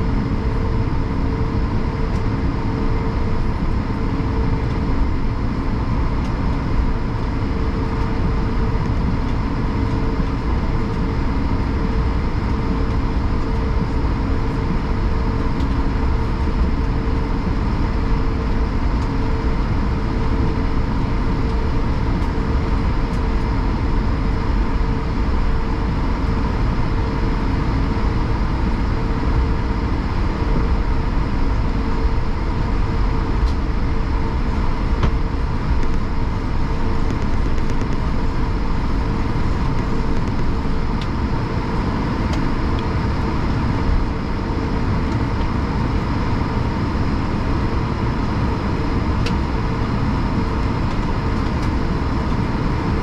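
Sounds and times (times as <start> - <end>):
airplane cabin engine rumble: 0.0 - 53.0.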